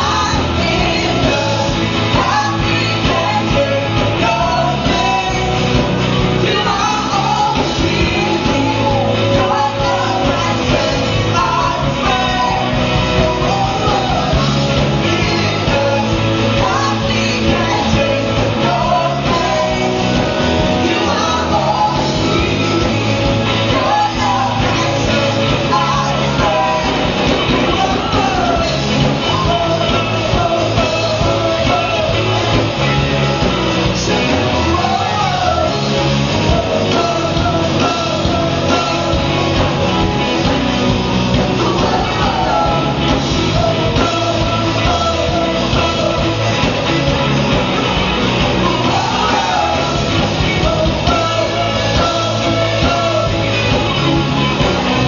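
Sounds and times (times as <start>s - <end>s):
live rock band: 0.0s - 55.0s
singer's voice: 0.0s - 55.0s.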